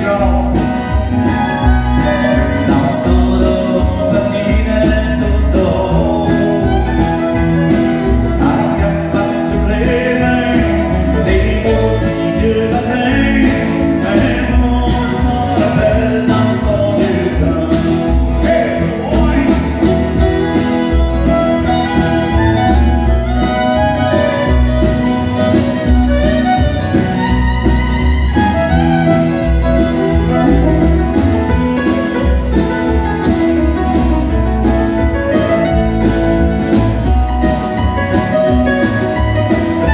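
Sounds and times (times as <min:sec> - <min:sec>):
fiddle playing: 0:00.0 - 0:16.8, 0:17.4 - 0:39.9
acoustic guitars strumming: 0:00.0 - 0:39.9.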